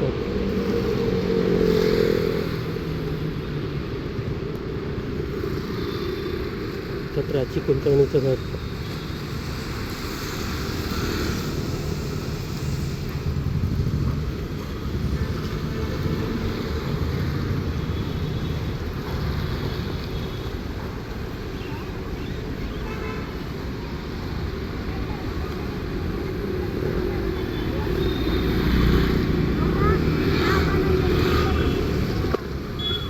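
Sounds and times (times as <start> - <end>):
motorbike and car engines: 0.0 - 33.0
tyres on the road: 0.0 - 33.0.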